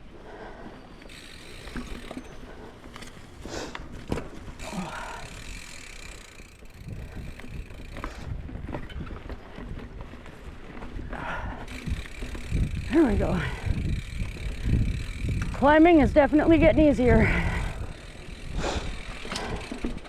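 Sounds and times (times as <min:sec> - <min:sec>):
bike rattling: 0:00.2 - 0:20.0.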